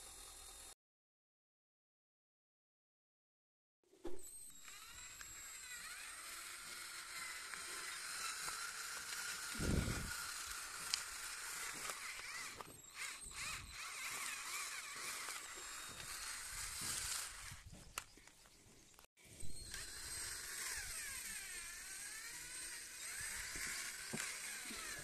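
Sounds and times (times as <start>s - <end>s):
drill motor high whine: 0.0s - 0.8s, 4.2s - 18.5s, 19.2s - 25.0s.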